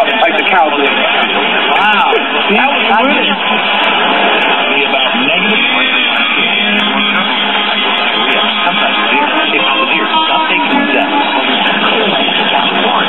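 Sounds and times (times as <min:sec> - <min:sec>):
guitar music through radio speaker: 0:00.0 - 0:13.0.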